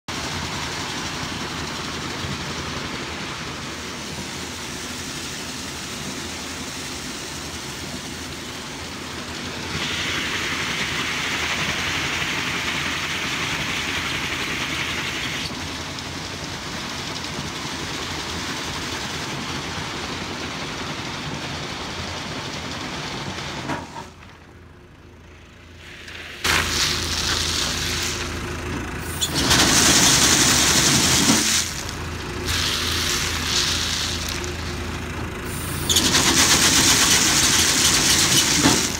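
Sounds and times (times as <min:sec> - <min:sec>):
harvesting machine engine hum: 0:00.1 - 0:38.9.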